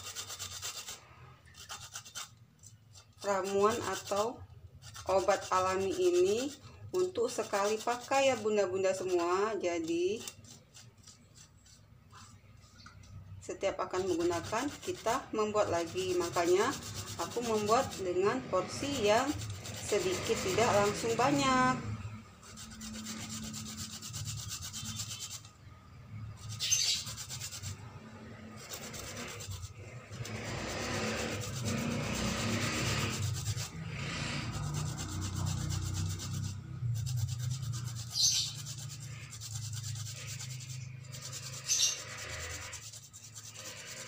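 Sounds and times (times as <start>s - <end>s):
root rasping on grater: 0.0s - 12.7s, 13.7s - 44.0s.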